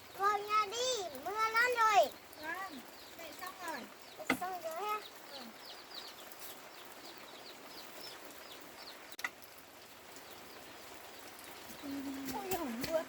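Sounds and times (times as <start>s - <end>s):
chicks peeping: 1.2s - 13.0s.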